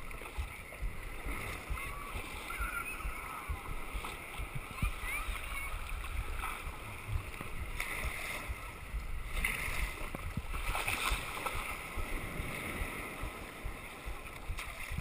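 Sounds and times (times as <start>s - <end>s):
paddle strokes splashing: 0.0s - 15.0s
sea water splashing: 0.0s - 15.0s
waves against kayak hull: 0.0s - 15.0s.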